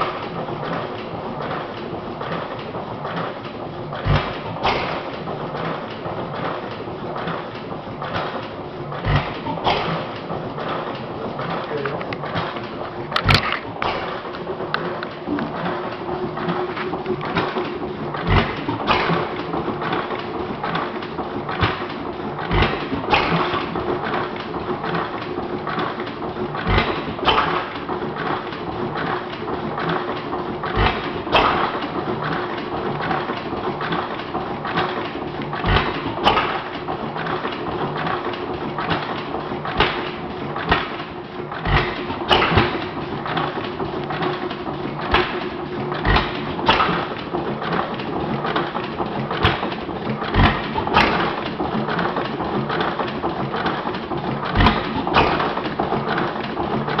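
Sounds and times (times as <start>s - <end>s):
engine mechanical clatter: 0.0s - 57.0s.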